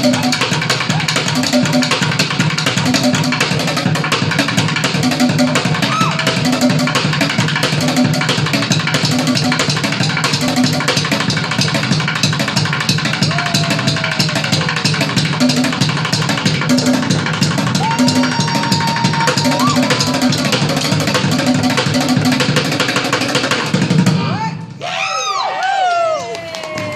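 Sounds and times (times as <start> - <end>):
fast street drumming: 0.0 - 24.4.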